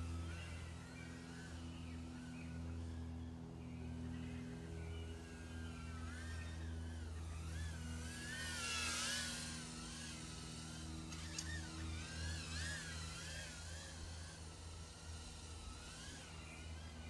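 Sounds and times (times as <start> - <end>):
small drone motors whining: 0.0 - 17.0
steady low hum: 0.0 - 17.0.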